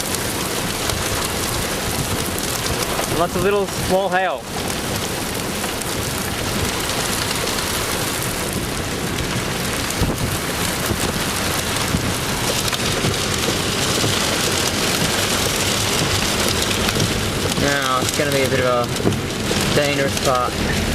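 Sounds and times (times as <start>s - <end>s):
hail and heavy rain pelting: 0.0s - 20.9s.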